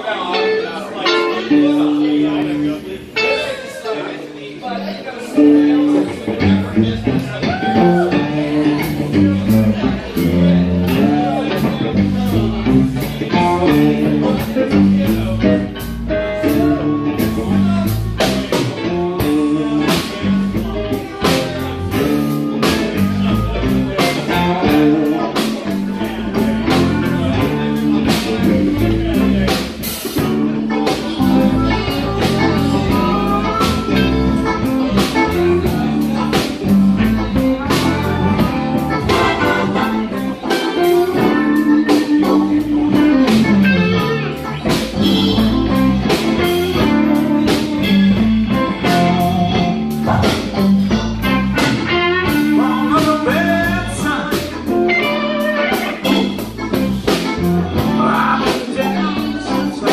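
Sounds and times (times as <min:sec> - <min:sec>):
blues guitar line: 0:00.0 - 0:59.9
walking bass: 0:00.0 - 0:59.9
steady drum beat: 0:06.0 - 0:59.9.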